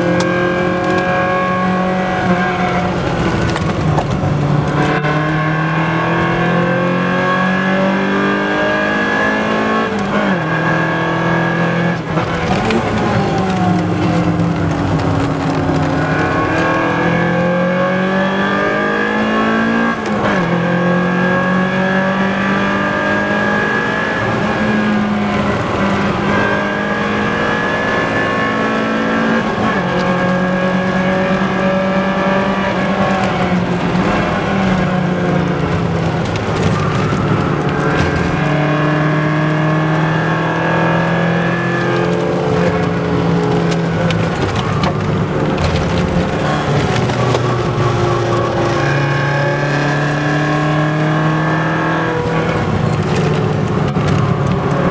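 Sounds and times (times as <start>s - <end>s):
car engine at high revs shifting gears: 0.0s - 54.9s.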